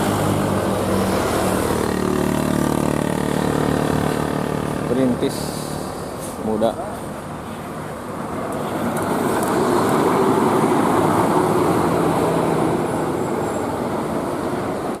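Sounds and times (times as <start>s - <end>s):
bus driving past: 0.0s - 15.0s.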